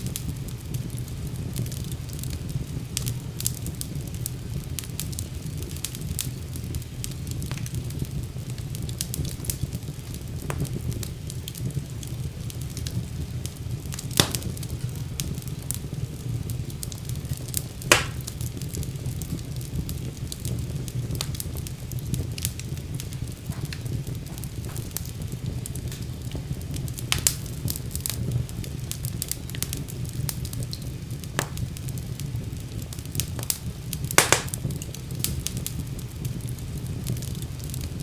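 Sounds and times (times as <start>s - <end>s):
fire crackles and pops: 0.0s - 38.0s
low rumble of flames: 0.0s - 38.0s.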